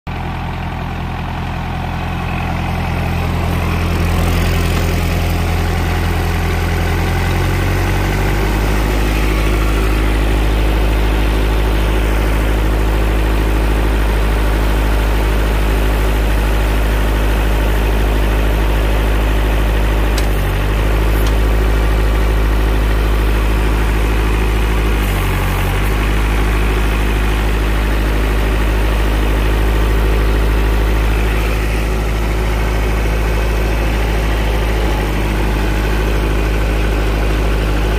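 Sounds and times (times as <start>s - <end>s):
diesel engine idling: 0.1s - 37.9s.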